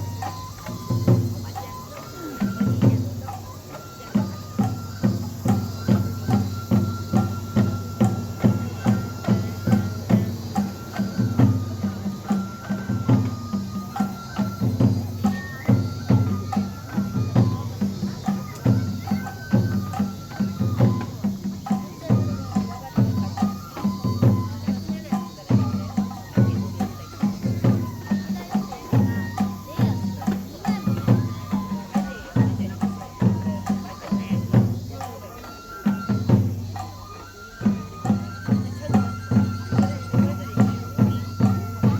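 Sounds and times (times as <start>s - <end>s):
drums beating steady rhythm: 0.0s - 41.9s
high flute melody: 0.0s - 41.9s.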